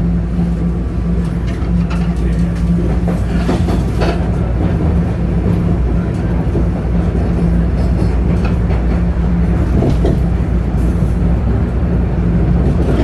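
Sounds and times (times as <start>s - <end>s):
subway train rumble: 0.0s - 13.0s
wheels clattering on rails: 0.4s - 13.0s.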